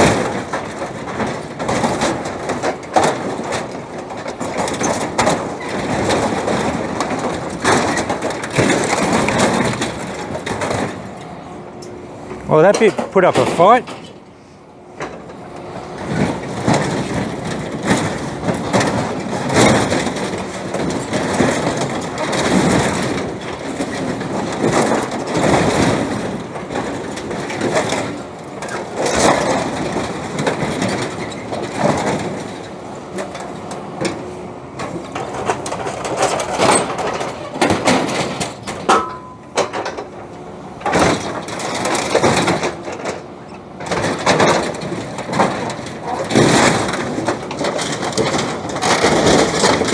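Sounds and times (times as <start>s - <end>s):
metal cracking and banging: 0.0s - 14.2s, 16.1s - 40.2s, 40.8s - 43.2s, 43.8s - 49.9s
excavator diesel engine running: 0.0s - 49.9s.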